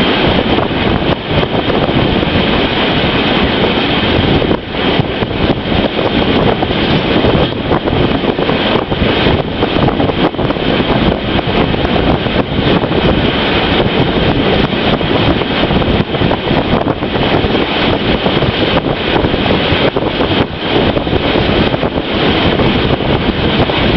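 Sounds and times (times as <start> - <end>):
moving train running noise: 0.0 - 23.9
wind buffeting microphone: 0.0 - 23.9.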